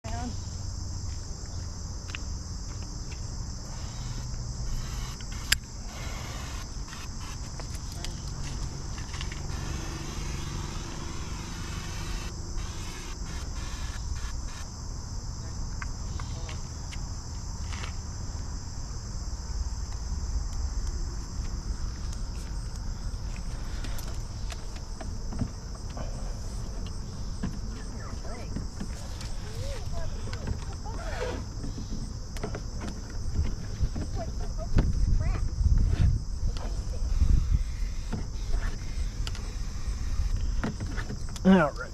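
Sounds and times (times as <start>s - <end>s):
insects chorus: 0.0s - 41.9s.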